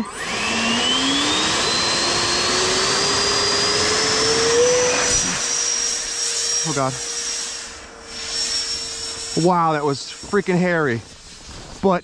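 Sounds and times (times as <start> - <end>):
electric ducted fan whine: 0.0 - 11.8.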